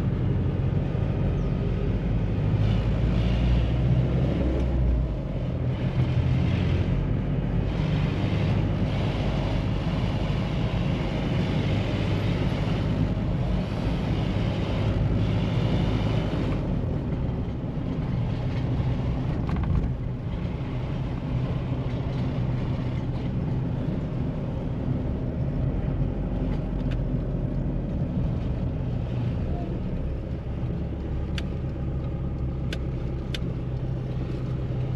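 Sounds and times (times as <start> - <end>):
diesel engine running: 0.0 - 34.9
road and tyre noise: 0.0 - 34.9.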